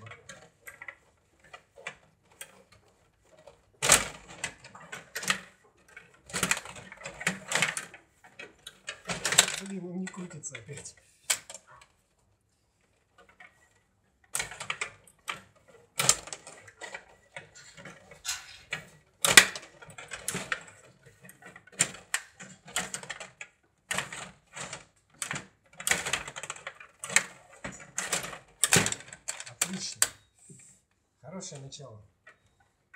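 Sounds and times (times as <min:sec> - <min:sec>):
table hockey rods clicking: 0:00.0 - 0:30.5.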